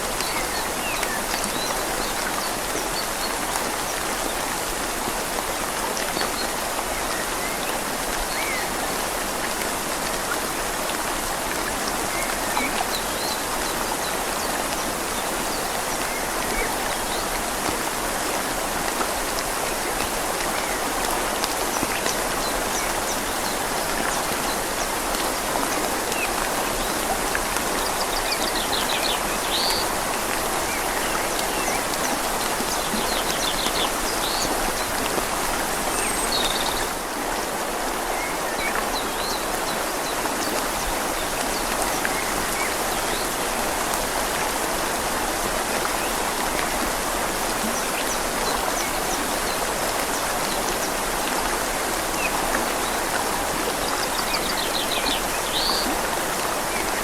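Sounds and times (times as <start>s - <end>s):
rain falling on leaves: 0.0s - 57.0s
river flowing gently: 0.0s - 57.0s.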